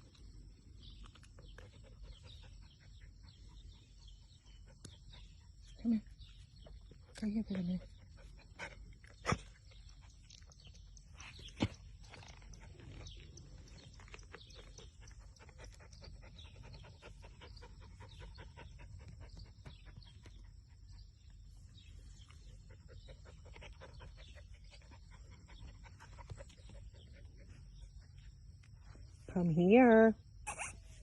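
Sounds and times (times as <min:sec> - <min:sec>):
puppy panting: 0:01.2 - 0:11.5, 0:12.2 - 0:28.7.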